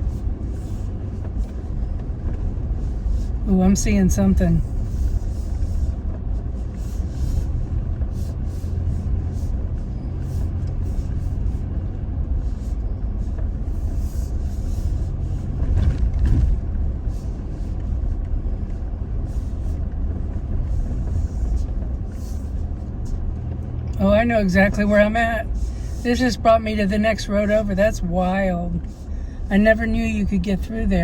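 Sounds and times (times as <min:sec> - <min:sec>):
pickup engine and tyre rumble: 0:00.0 - 0:31.0
vehicle jolt: 0:00.0 - 0:31.0.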